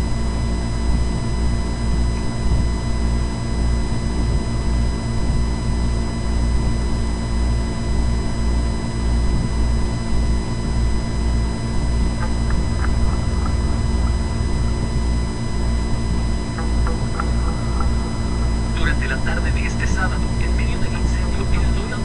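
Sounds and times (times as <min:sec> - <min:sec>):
constant drone: 0:00.0 - 0:22.0
low rumble: 0:03.9 - 0:22.0.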